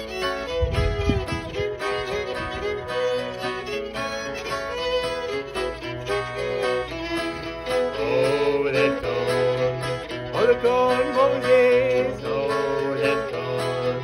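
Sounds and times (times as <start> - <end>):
acoustic guitar strumming: 0.0 - 14.0
fiddle melody with sliding notes: 0.0 - 14.0.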